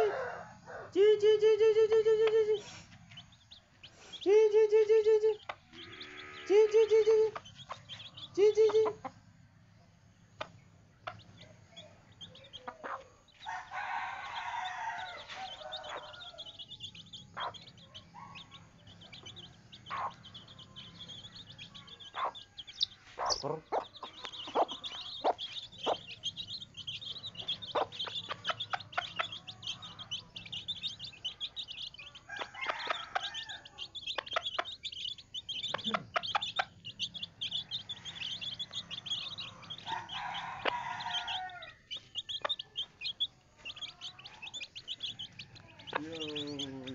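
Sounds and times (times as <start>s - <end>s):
chickens clucking: 0.0s - 46.9s
high chirping: 1.0s - 46.9s.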